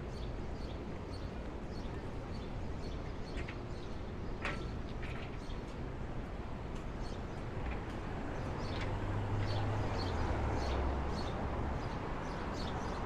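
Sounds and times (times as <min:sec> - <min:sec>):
low traffic hum: 0:00.0 - 0:13.0.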